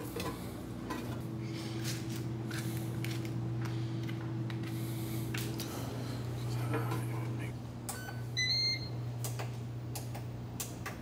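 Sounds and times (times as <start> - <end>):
air fryer motor and fan hum: 0.0 - 11.0.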